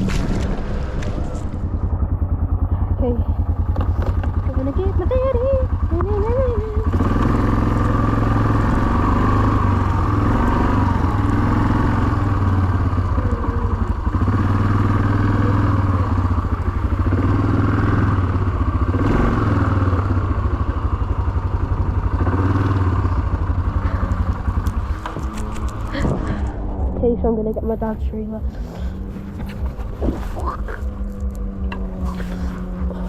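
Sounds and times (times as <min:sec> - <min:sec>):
engine running at low speed: 0:00.0 - 0:33.0.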